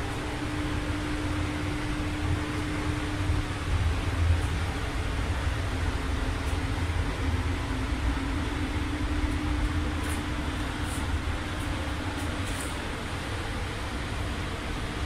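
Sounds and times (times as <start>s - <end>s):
constant hum: 0.0s - 15.0s
ventilation air rushing: 0.0s - 15.0s.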